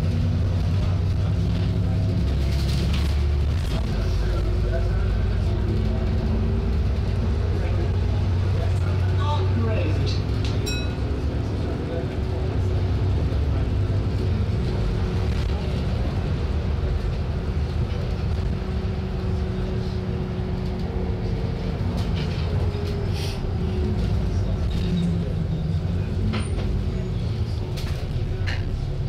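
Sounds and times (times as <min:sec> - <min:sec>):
bus engine droning: 0:00.0 - 0:29.0.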